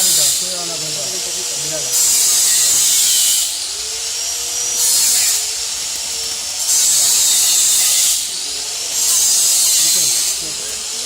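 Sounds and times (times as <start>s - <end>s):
welding hiss: 0.0s - 11.0s.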